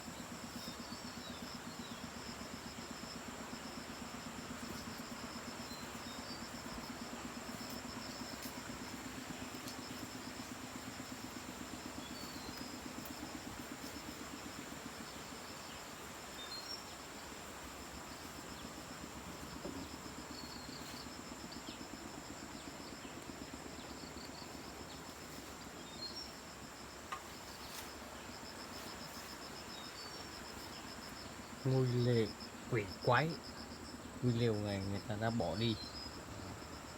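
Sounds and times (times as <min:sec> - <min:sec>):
crickets trilling: 0:00.0 - 0:36.9
low pulsing insect drone: 0:00.0 - 0:36.9.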